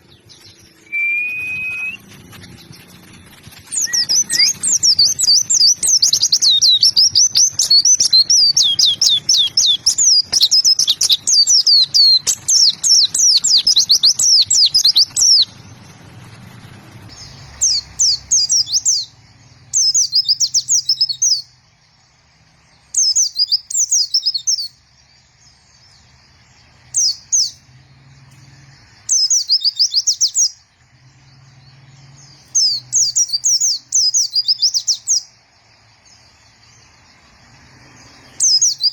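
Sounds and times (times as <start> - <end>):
bird singing high twitters: 0.0 - 38.9.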